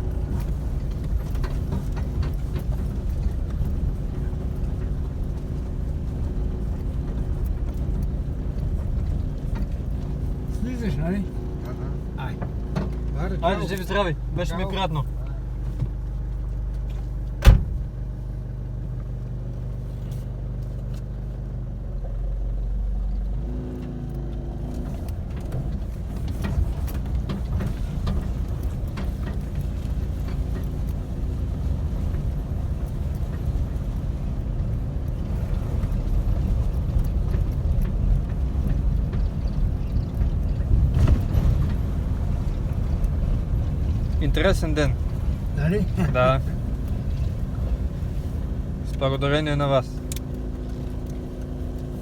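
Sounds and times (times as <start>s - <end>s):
car engine idling: 0.0s - 52.0s
car pulling away: 0.0s - 52.0s
road noise: 0.0s - 52.0s.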